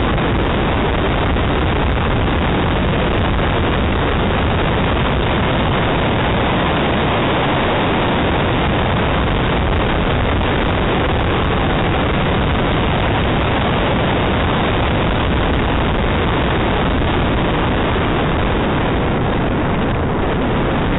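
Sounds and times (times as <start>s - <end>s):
wind and car noise: 0.0s - 20.9s.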